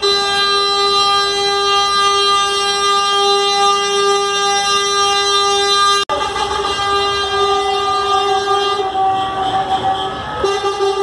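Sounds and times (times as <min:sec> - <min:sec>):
truck air horns: 0:00.0 - 0:11.0.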